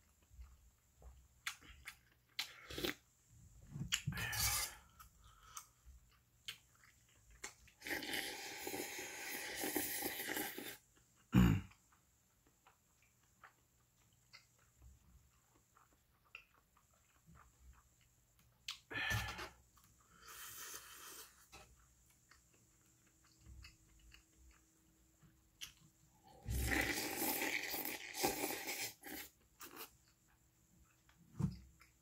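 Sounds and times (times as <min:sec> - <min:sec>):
close chewing and eating: 0:00.0 - 0:03.1, 0:03.7 - 0:32.0.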